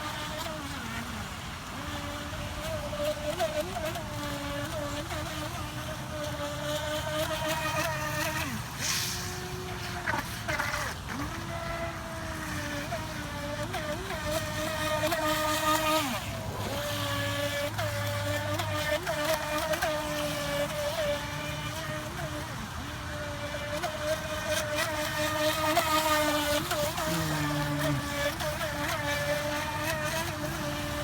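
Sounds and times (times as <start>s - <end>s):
electric motor whining: 0.0s - 31.0s.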